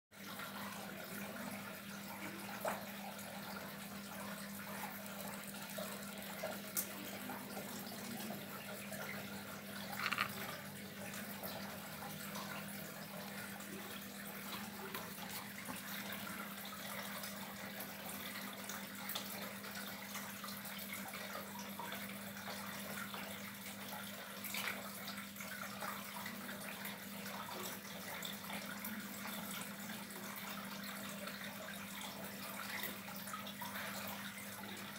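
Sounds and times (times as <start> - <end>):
water trickling: 0.2 - 34.9.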